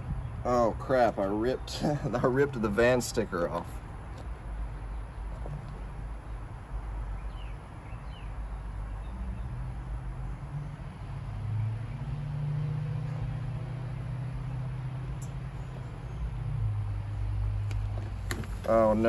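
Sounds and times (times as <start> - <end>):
low motor hum with rumble: 0.0 - 19.0.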